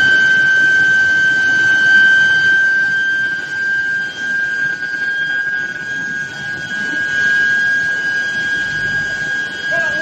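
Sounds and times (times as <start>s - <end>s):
furnace coil high-pitched whine: 0.0s - 10.0s
rough machinery hum: 0.0s - 10.0s.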